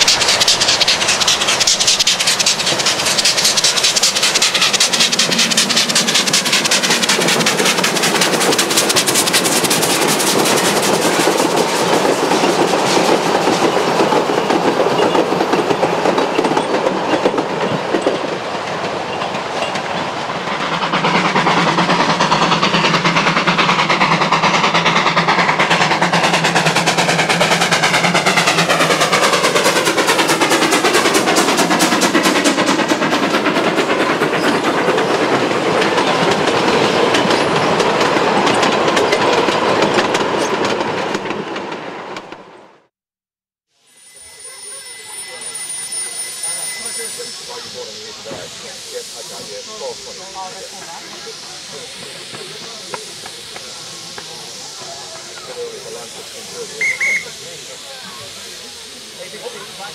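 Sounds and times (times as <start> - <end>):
rapid clicking of train wheels: 0.0 - 42.9, 44.2 - 59.9
steam train running past: 0.0 - 42.9, 43.8 - 59.9.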